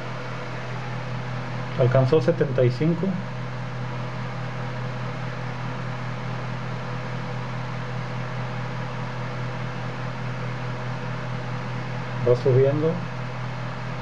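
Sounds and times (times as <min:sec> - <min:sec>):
low hum with fan whir: 0:00.0 - 0:14.0.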